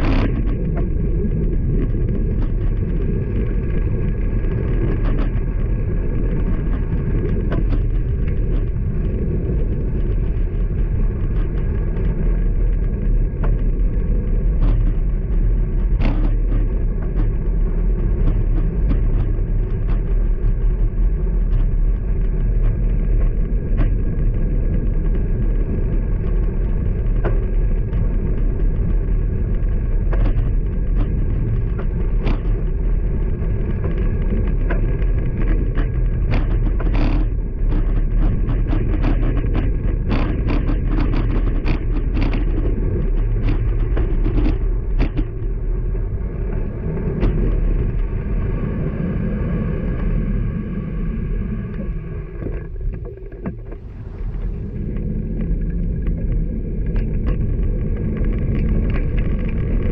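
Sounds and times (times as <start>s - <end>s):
sharp clicks and rattles: 0.0s - 48.4s, 51.7s - 59.9s
wind and road noise: 0.0s - 59.9s.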